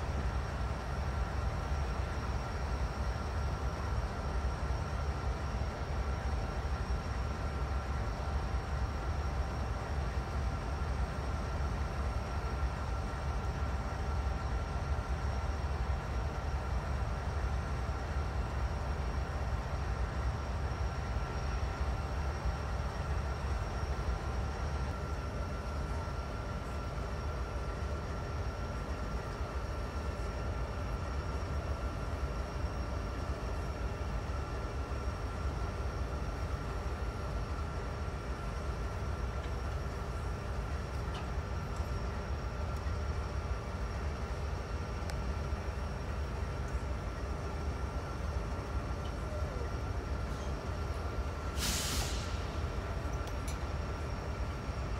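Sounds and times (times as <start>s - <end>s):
diesel locomotive idling: 0.0s - 54.9s
thin steady whine: 0.0s - 54.9s.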